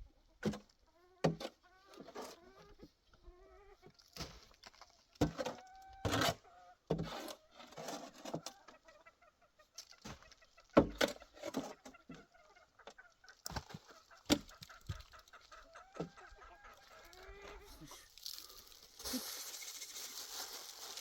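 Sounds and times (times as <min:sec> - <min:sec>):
chickens clucking: 0:00.1 - 0:04.0, 0:05.2 - 0:21.0.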